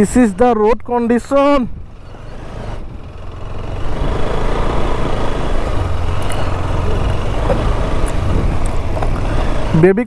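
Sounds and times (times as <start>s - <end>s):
motorcycle engine on dirt road: 0.0s - 10.0s.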